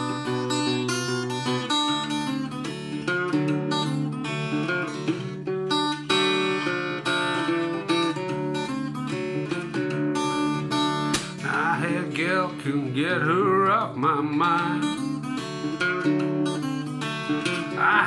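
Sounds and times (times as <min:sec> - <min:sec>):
fingerstyle acoustic guitar: 0:00.0 - 0:18.0.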